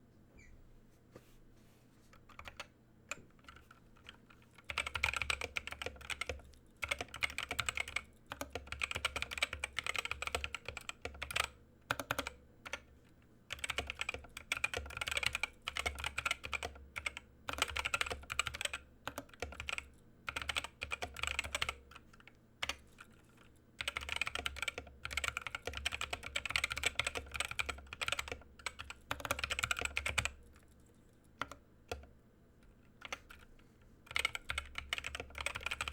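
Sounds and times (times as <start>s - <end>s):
typing on mechanical keyboard: 2.3s - 2.7s, 3.4s - 12.9s, 13.5s - 30.8s, 31.4s - 32.1s, 32.7s - 33.5s, 34.1s - 35.9s.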